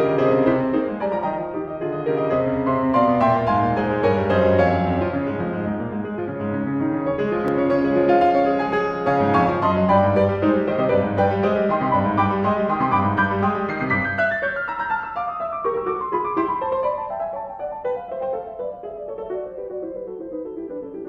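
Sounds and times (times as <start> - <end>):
instrumental piano music: 0.0 - 21.0.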